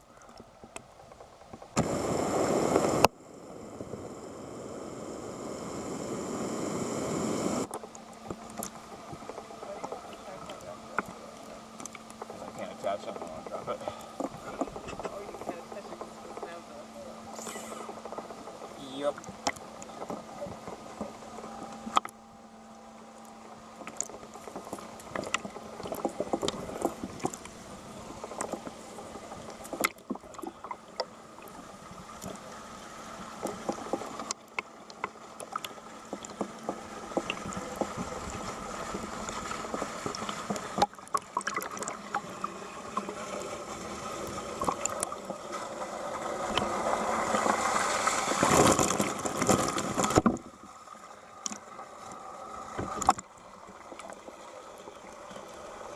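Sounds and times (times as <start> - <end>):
water lapping and splashing: 7.2 - 55.9.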